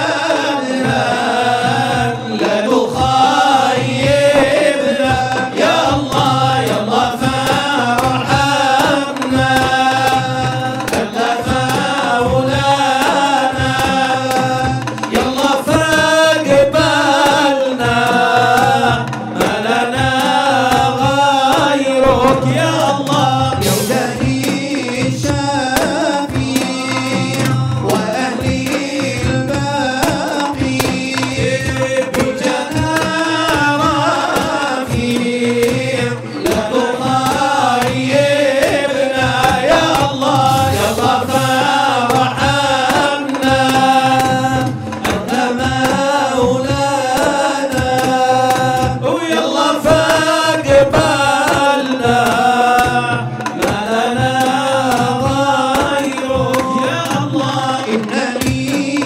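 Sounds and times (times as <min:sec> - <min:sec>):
frame drums beating: 0:00.0 - 0:59.0
men singing devotional song: 0:00.0 - 0:59.0.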